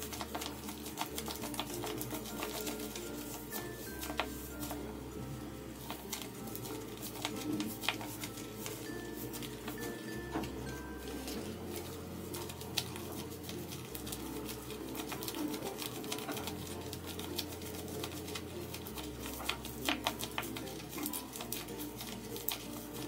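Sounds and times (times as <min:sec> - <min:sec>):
paper and tape crinkling: 0:00.0 - 0:23.0.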